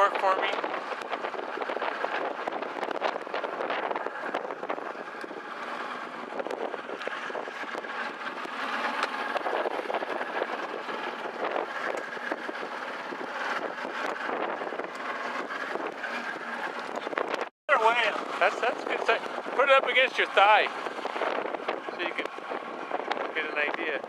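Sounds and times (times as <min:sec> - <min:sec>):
wind rushing across microphone: 0:00.0 - 0:24.0.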